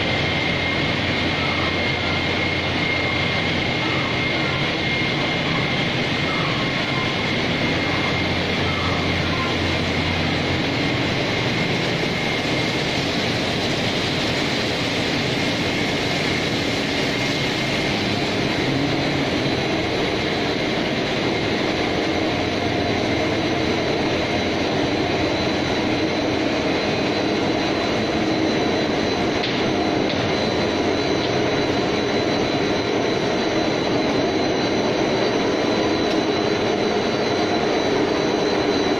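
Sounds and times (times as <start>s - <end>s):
steady mechanical noise: 0.0s - 38.9s
thin high whines: 0.0s - 38.9s.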